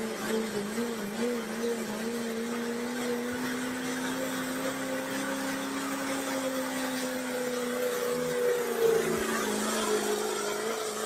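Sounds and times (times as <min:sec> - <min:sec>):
diesel pickup engine droning: 0:00.0 - 0:11.0.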